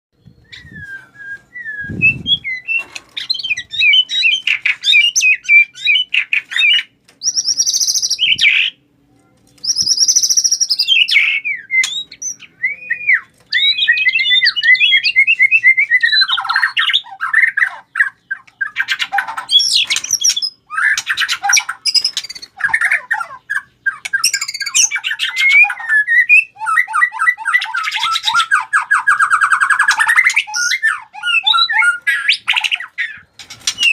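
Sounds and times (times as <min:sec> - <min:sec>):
bird singing chirps and whistles: 0:00.2 - 0:08.8, 0:09.6 - 0:33.9.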